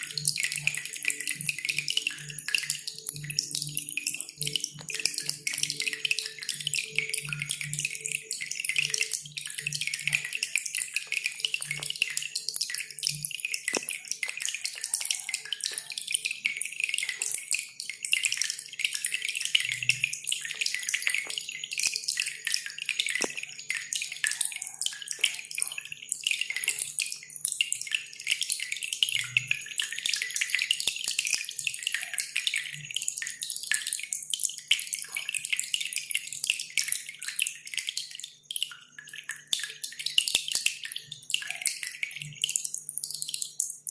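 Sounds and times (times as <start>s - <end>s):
water dripping: 0.0s - 43.9s.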